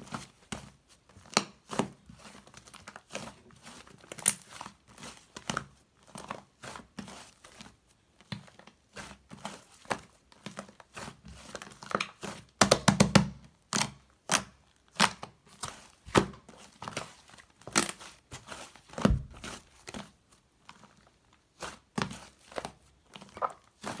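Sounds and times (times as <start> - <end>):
crinkling and tearing: 1.2 - 12.5, 13.7 - 24.0.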